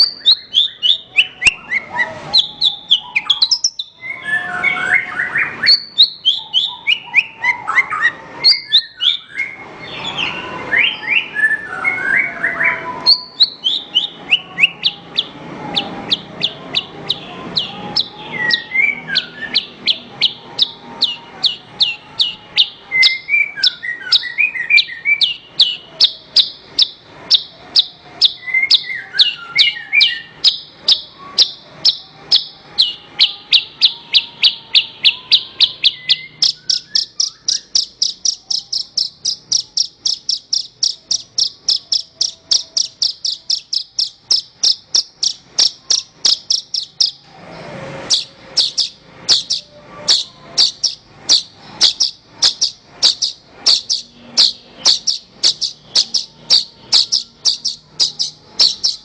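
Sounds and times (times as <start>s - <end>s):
bird singing high repeated notes: 0.0s - 47.2s, 48.0s - 59.0s.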